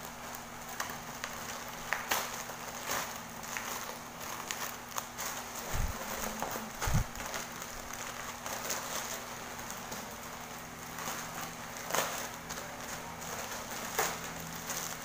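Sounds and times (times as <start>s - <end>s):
plastic wrapping rustling: 0.0s - 15.0s.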